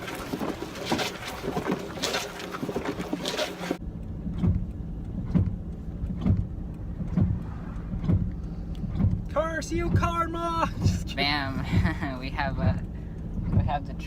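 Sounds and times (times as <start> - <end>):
regular thump: 0.0 - 13.8
car driving heard from inside: 0.0 - 14.0.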